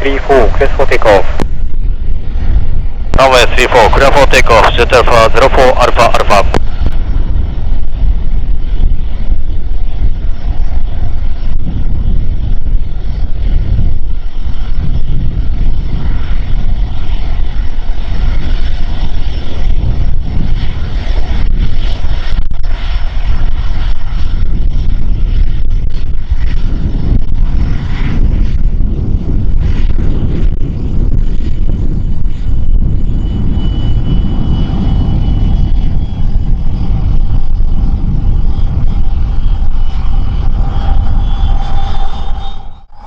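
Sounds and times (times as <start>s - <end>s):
aircraft engines at takeoff: 0.0s - 43.0s
wind rumbling on microphone: 0.0s - 43.0s.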